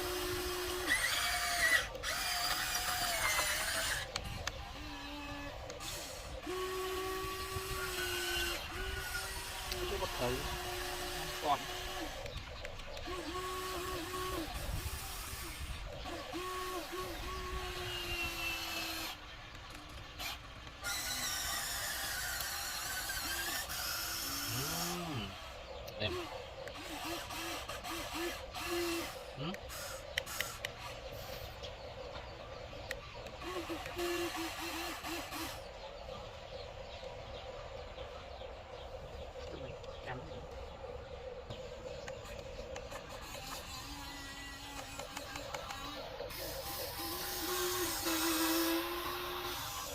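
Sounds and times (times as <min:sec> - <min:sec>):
rough high-pitched motor whine: 0:00.0 - 0:37.0, 0:39.2 - 0:49.9
small electric motors whining: 0:00.0 - 0:49.9.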